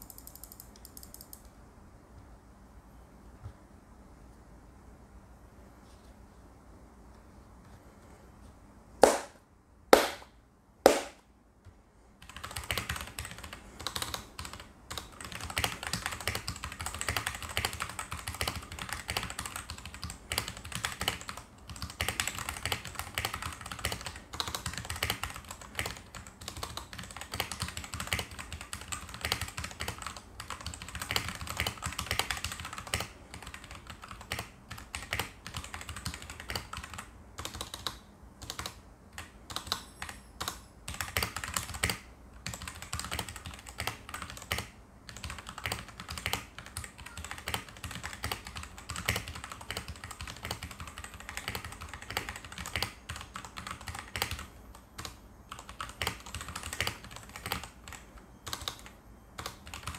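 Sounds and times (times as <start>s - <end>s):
mechanical keyboard typing: 0.0s - 1.5s, 12.2s - 59.9s.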